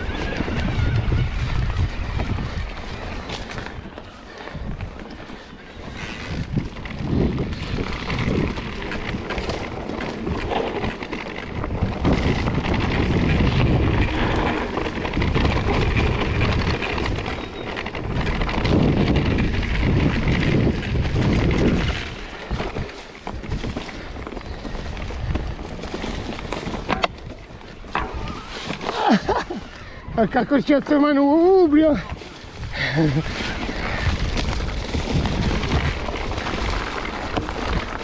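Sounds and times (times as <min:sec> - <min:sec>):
bike tyres rolling over leaves: 0:00.0 - 0:38.0
wind buffeting microphone: 0:00.0 - 0:38.0.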